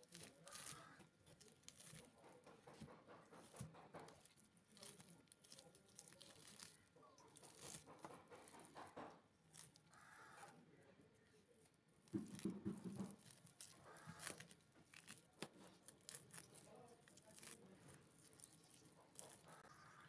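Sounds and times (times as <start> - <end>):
fruit pulp tearing and crackling: 0.0 - 20.0.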